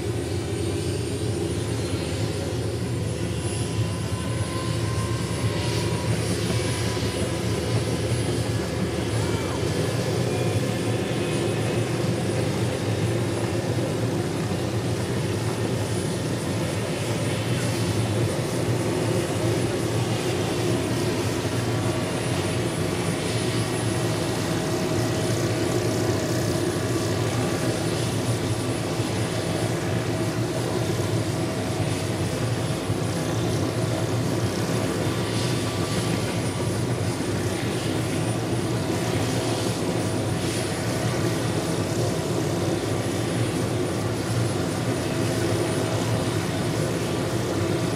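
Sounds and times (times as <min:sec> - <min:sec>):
helicopter rotor noise: 0:00.0 - 0:47.9
turbine whine: 0:00.0 - 0:47.9.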